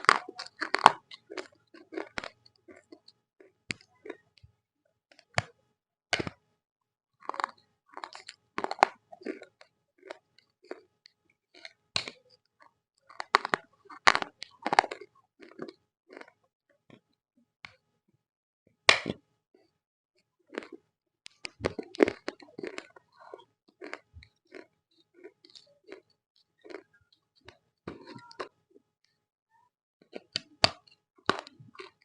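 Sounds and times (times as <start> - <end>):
crunching and chewing clay: 0.0 - 4.5, 5.1 - 17.9, 18.9 - 29.2, 30.0 - 32.0.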